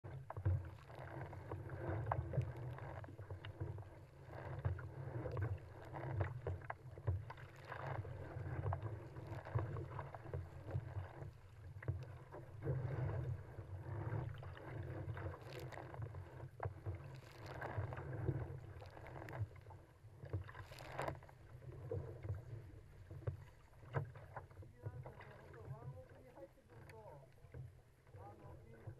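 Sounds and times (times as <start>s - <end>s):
paddle splashes: 0.0s - 28.9s
water slapping against hull: 0.0s - 28.9s.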